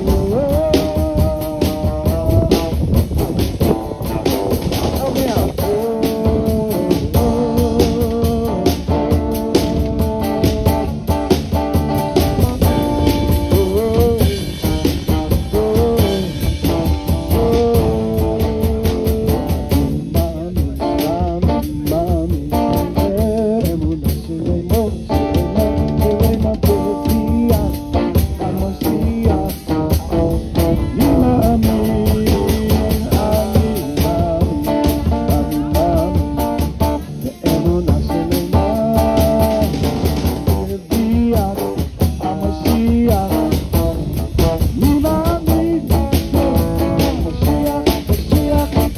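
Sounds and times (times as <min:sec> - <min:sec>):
drum kit beat: 0:00.0 - 0:48.9
live rock band playing: 0:00.0 - 0:48.9.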